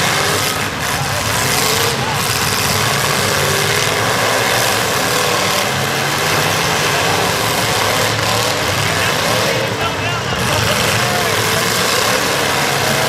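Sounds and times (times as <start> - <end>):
car engines running loud: 0.0 - 13.0.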